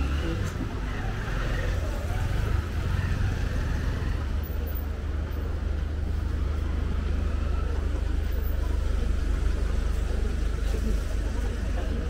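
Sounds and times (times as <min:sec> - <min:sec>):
faint hubbub: 0:00.0 - 0:12.0
low street rumble: 0:00.0 - 0:12.0.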